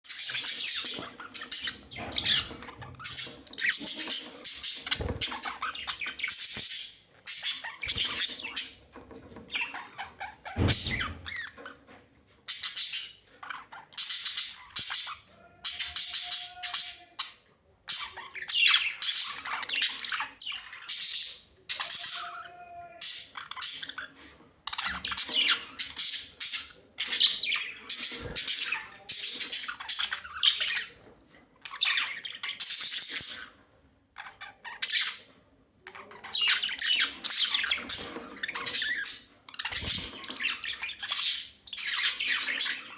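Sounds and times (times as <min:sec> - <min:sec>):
budgerigars chirping and squawking: 0:00.0 - 0:42.9.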